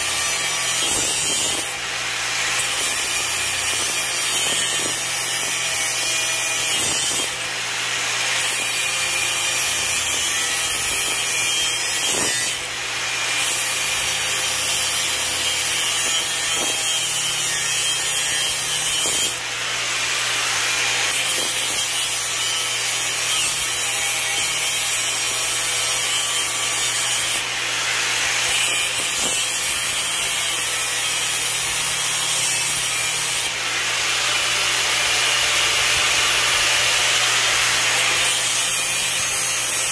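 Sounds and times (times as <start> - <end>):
angle grinder cutting pipe: 0.0 - 39.9.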